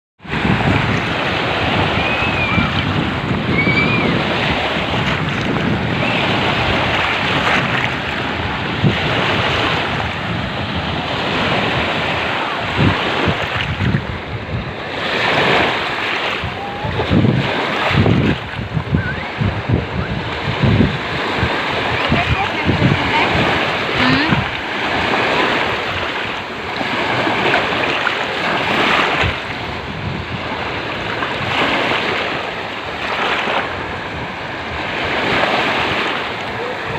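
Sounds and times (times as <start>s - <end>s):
surf breaking on shore: 0.2s - 36.9s
wind buffeting microphone: 0.2s - 36.9s.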